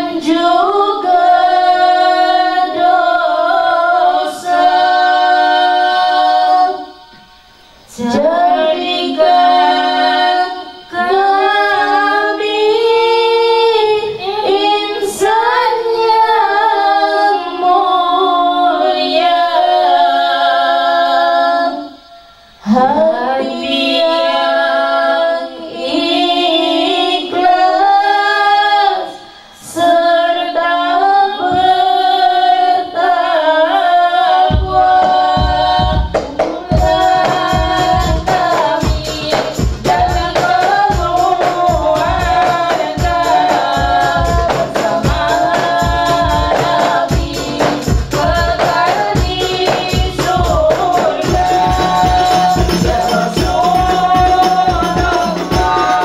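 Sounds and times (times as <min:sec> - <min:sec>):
women singing in unison: 0:00.0 - 0:56.0.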